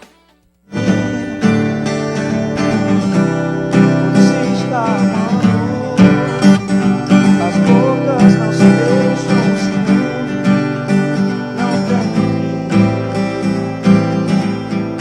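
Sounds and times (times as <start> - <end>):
pop-rock music with acoustic guitar: 0.0 - 15.0.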